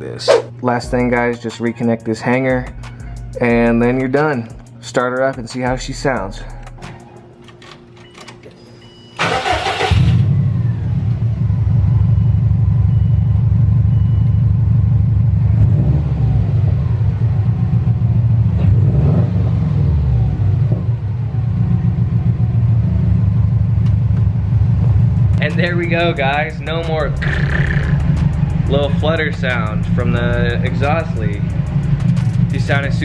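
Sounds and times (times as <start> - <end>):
car engine starting and idling: 5.9 - 33.0.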